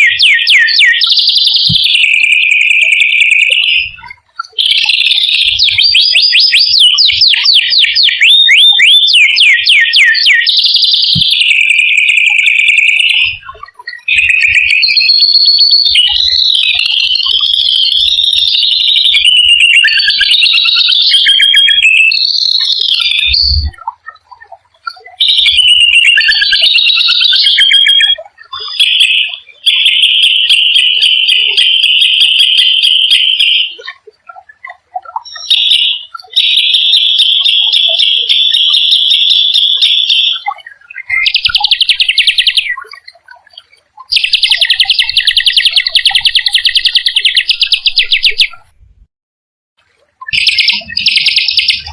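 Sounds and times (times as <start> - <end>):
songbird singing: 0.0 - 48.7, 50.2 - 51.9.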